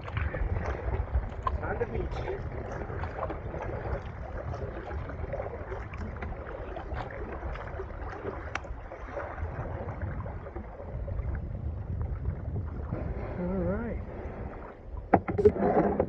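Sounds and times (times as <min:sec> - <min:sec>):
small waves splashing and lapping: 0:00.0 - 0:16.0
wind on microphone: 0:00.0 - 0:16.0.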